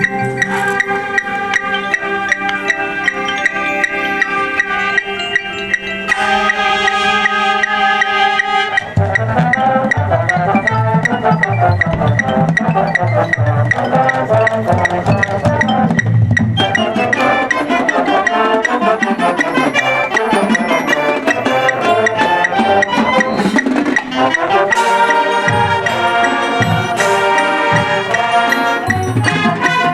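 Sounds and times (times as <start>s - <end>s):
marching band playing: 0.0s - 29.9s.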